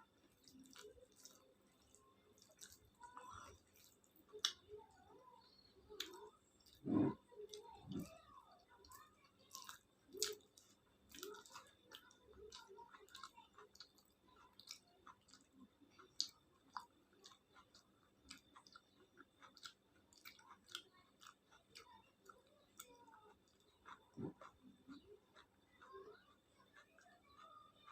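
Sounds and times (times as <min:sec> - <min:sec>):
person chewing with mouth smacks: 0:00.3 - 0:04.7, 0:05.9 - 0:08.2, 0:08.8 - 0:27.9.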